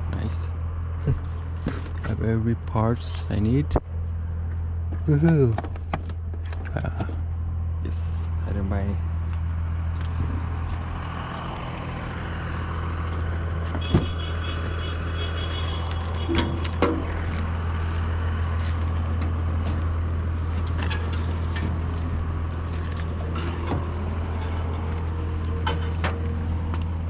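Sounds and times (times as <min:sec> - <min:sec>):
vehicle engine idling hum: 0:00.0 - 0:27.0.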